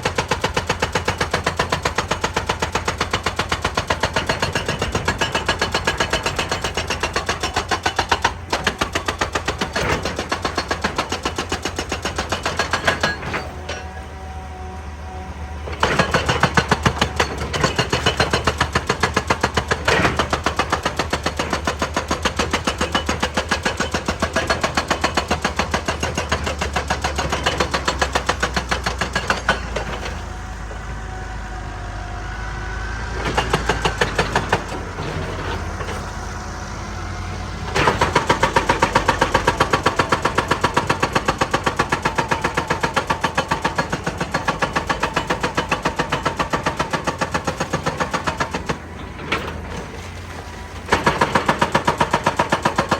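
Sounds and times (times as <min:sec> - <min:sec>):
hydraulic rock breaker hammering: 0:00.0 - 0:14.3, 0:15.6 - 0:30.9, 0:33.2 - 0:36.1, 0:37.6 - 0:52.9
excavator engine running: 0:00.0 - 0:52.9.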